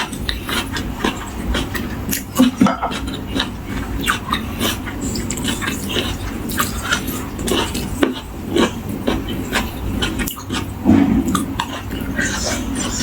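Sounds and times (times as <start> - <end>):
food being chewed and crunched: 0.0 - 13.0.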